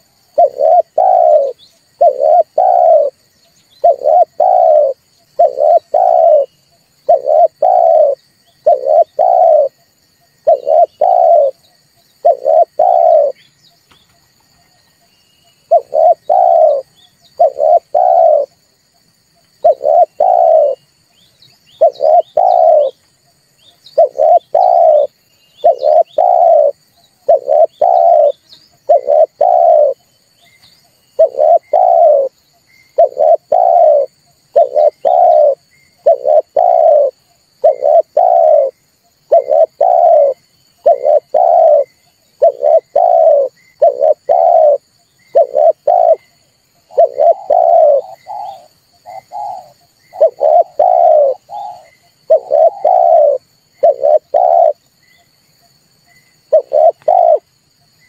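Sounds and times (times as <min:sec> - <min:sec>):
dove cooing: 0:00.0 - 0:09.8, 0:10.4 - 0:11.6, 0:12.2 - 0:13.4, 0:15.6 - 0:18.6, 0:19.5 - 0:20.9, 0:21.8 - 0:23.0, 0:24.0 - 0:30.1, 0:31.1 - 0:54.8, 0:56.5 - 0:57.5.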